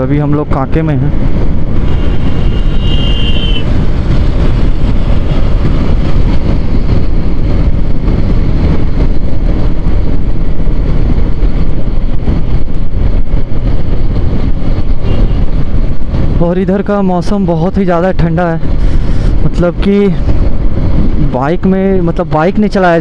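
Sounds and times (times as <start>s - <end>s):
motorcycle riding noise: 0.0s - 23.0s
wind rush on microphone: 0.0s - 23.0s.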